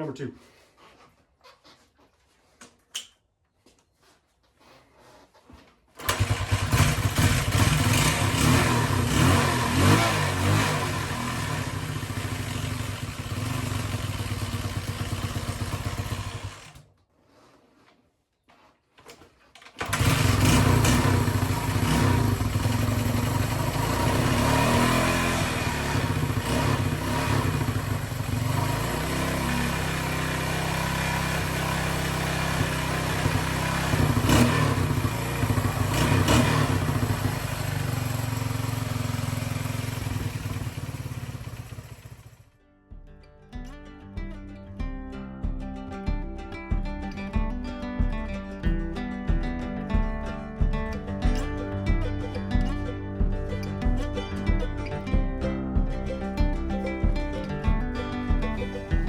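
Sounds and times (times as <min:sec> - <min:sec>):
motorcycle engine running: 0:06.0 - 0:16.8, 0:19.8 - 0:42.6, 0:44.2 - 0:59.0.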